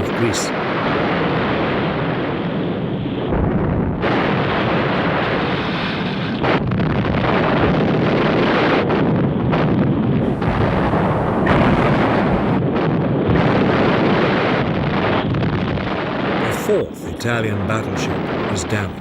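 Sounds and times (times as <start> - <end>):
naval gunfire and explosions: 0.0 - 19.0.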